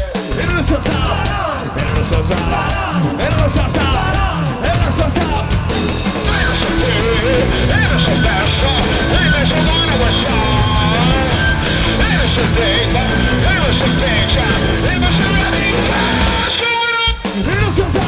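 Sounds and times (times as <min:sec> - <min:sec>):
live punk rock band: 0:00.0 - 0:18.0
pounding drums: 0:00.0 - 0:18.0.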